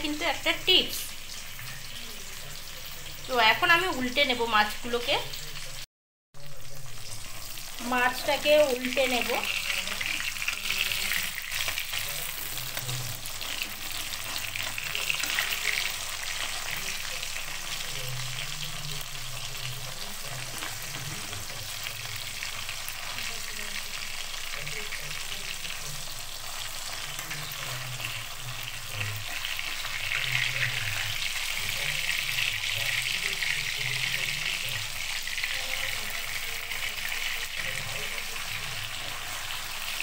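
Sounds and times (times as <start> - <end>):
fish sizzling in hot oil: 0.0 - 40.0.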